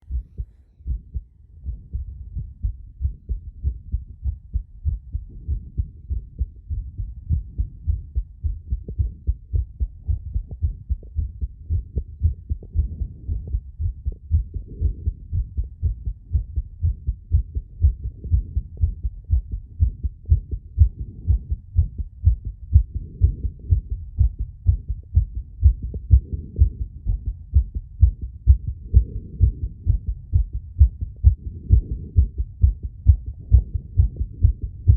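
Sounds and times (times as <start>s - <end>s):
low heartbeats: 0.0s - 34.9s.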